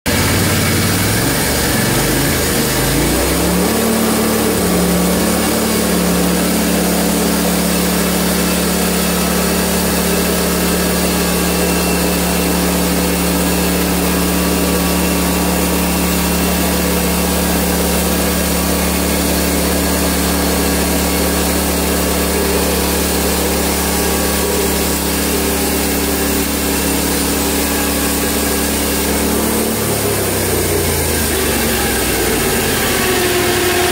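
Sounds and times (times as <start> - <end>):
sawmill gasoline engine revving: 0.0 - 33.9.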